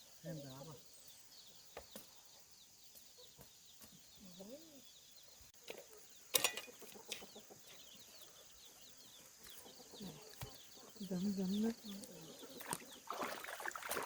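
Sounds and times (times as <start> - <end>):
faint high chirping: 0.1 - 13.5.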